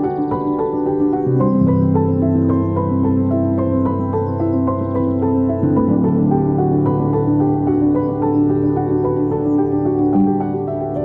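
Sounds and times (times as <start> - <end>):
calm new-age music: 0.0 - 11.0.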